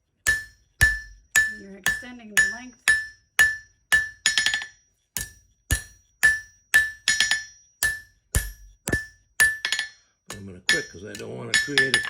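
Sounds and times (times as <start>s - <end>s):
hammer striking iron on anvil: 0.2s - 12.0s.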